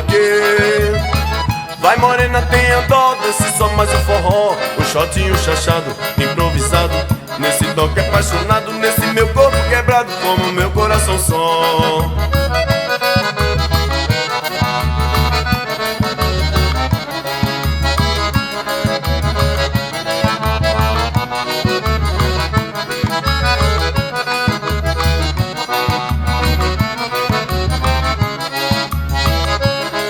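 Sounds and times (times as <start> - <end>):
steady low beat: 0.0 - 29.9
accordion melody: 0.0 - 30.0.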